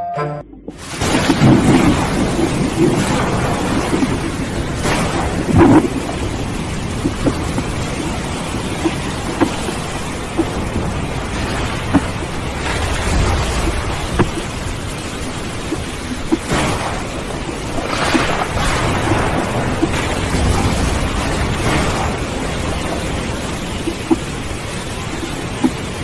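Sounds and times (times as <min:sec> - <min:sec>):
sharp ticks of raindrops: 0:00.7 - 0:26.0
low rolling thunder: 0:00.8 - 0:25.7
steady rain: 0:00.8 - 0:26.0.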